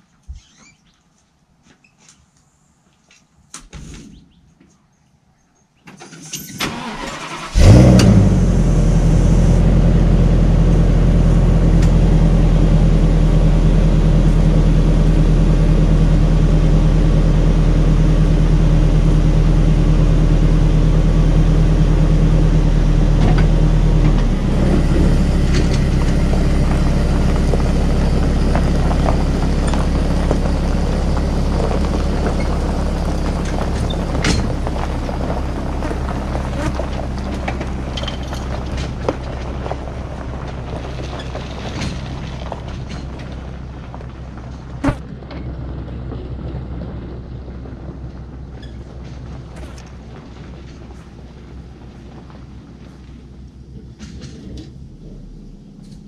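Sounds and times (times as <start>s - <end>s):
engine cranking and idling: 6.0s - 56.0s.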